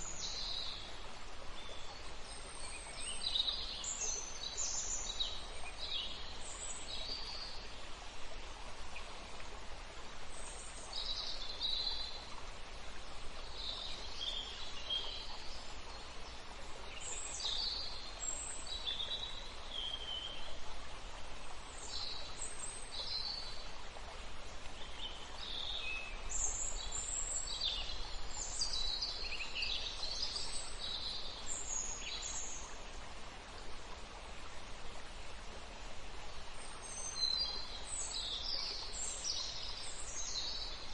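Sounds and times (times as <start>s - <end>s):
steady outdoor hiss: 0.0s - 40.9s.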